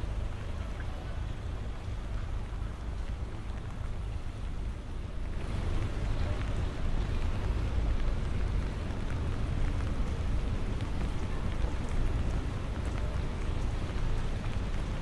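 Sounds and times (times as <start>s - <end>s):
rain on stone paving: 0.0s - 15.0s.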